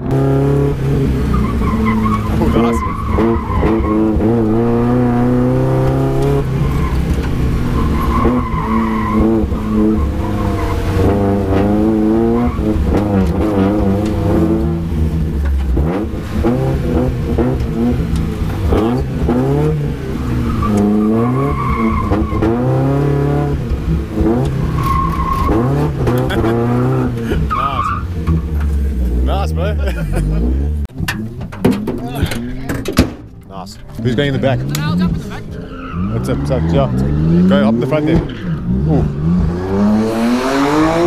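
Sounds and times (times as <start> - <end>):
race car engine revving: 0.0 - 32.9, 33.9 - 41.0
tyres skidding: 0.0 - 41.0.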